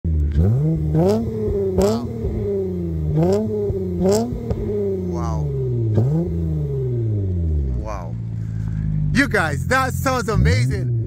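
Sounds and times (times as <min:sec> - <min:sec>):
car engine revving: 0:00.1 - 0:11.0.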